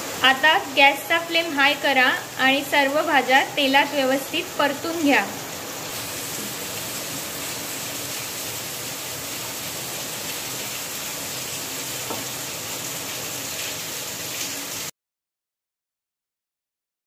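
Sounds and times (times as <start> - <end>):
vegetables sizzling in oil: 0.0 - 14.9.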